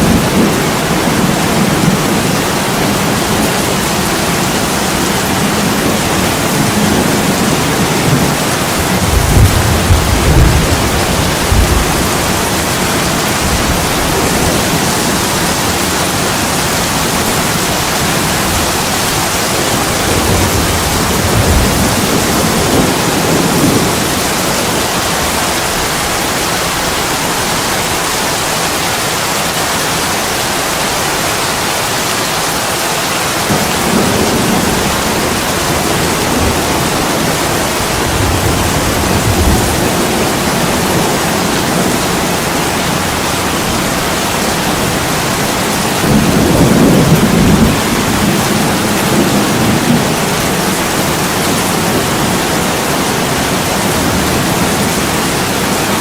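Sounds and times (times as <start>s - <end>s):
low thunder rumbles: 0.0s - 28.1s, 33.4s - 55.8s
heavy rain on a window: 0.0s - 56.0s.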